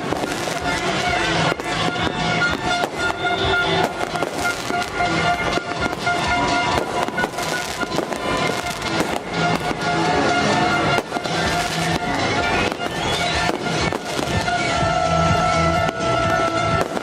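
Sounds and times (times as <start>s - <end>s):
fireworks bangs and crackles: 0.0s - 17.0s
loud music: 0.0s - 17.0s
rocket whistle: 0.0s - 17.0s.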